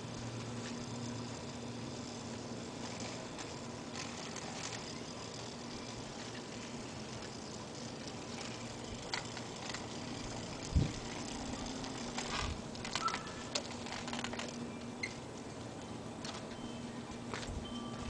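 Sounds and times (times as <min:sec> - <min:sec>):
faint outdoor background: 0:00.0 - 0:18.0
scooter clicking and rattling: 0:00.0 - 0:18.0.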